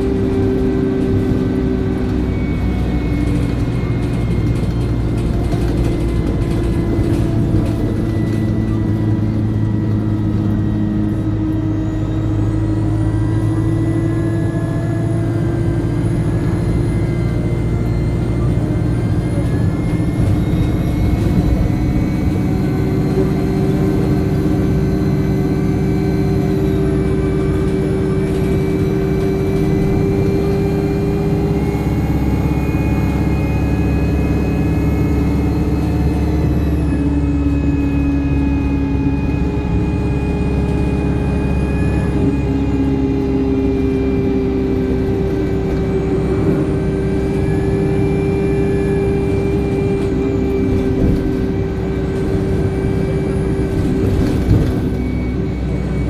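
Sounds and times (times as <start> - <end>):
bus engine running: 0.0 - 56.0
turbocharger whine: 0.0 - 56.0.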